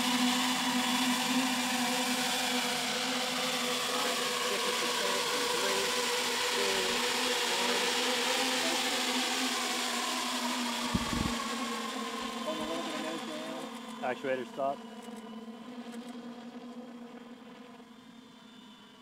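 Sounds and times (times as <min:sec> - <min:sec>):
many-propeller whine: 0:00.0 - 0:19.0.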